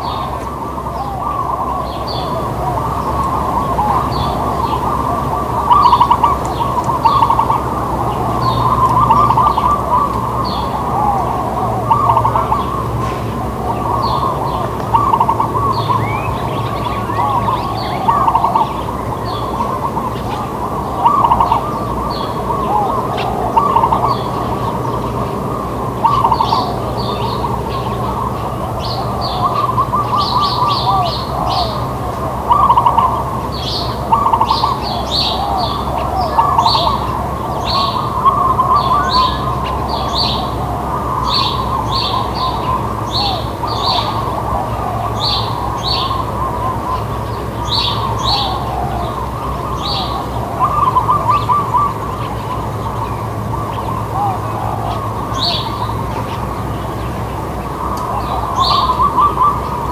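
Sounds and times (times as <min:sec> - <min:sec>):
doves cooing: 0:00.0 - 0:59.9
low background hum: 0:00.0 - 0:59.9
sparrows chirping: 0:00.0 - 0:59.9.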